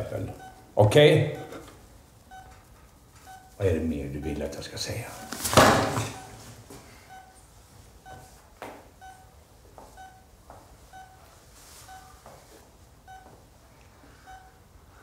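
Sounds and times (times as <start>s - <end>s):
patient monitor beeping: 0.0s - 15.0s.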